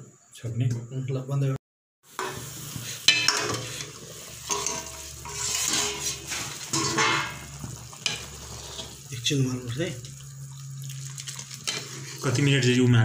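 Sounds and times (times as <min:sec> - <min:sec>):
soup boiling and bubbling: 0:02.1 - 0:13.0.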